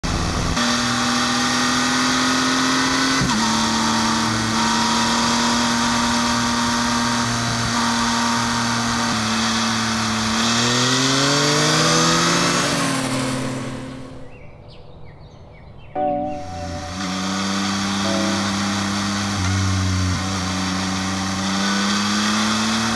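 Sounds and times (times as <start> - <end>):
motorcycle engine accelerating: 0.1 - 14.4, 16.4 - 22.9.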